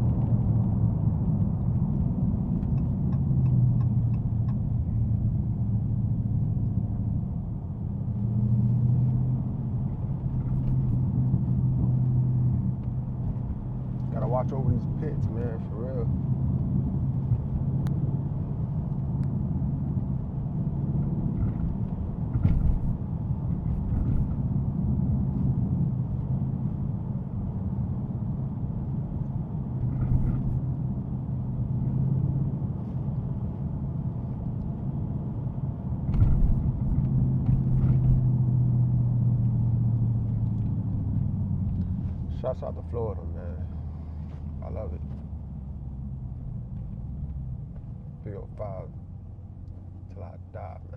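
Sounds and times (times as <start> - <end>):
car engine droning: 0.0 - 50.9
road noise: 0.0 - 50.9.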